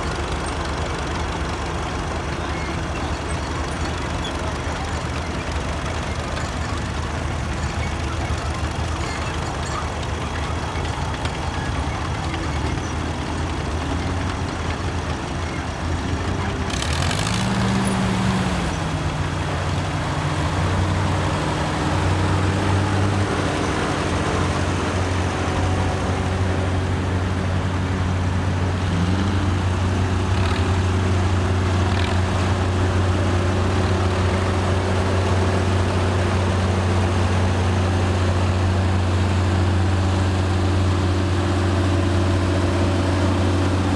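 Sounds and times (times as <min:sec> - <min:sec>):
tractor engines running: 0:00.0 - 0:43.9.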